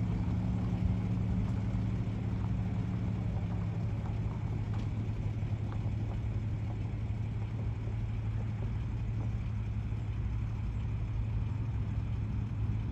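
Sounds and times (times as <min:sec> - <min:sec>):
car engine low hum: 0:00.0 - 0:12.9.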